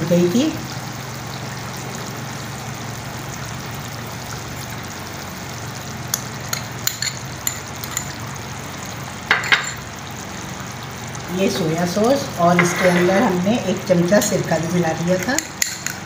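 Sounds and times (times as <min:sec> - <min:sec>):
chicken sizzling in a wok: 0:00.0 - 0:16.0.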